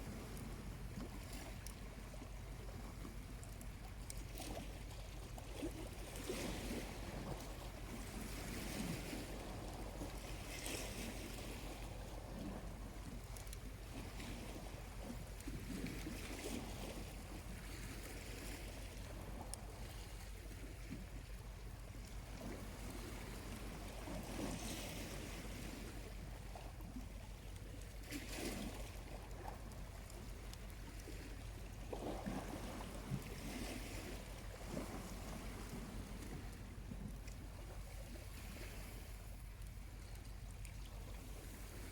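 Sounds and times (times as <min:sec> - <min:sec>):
small waves washing in: 0:00.0 - 0:41.9.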